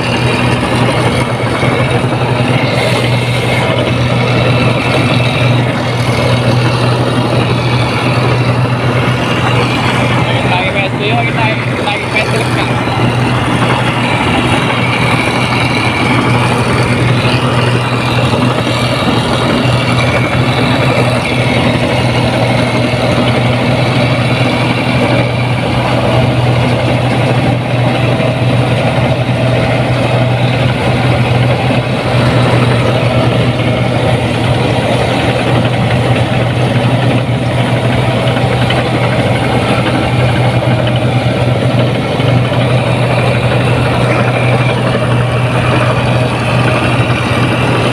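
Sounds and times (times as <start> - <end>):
diesel engine running loudly: 0.0 - 47.9.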